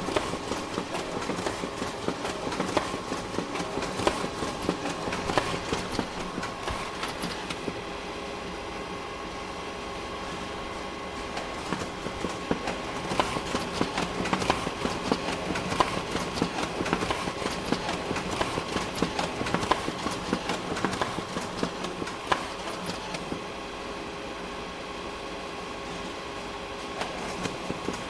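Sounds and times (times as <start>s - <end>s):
photocopier hum: 0.0s - 28.0s.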